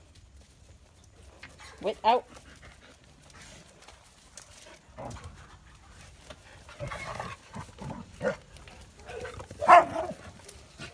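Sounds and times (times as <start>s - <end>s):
dogs panting: 0.9s - 10.9s.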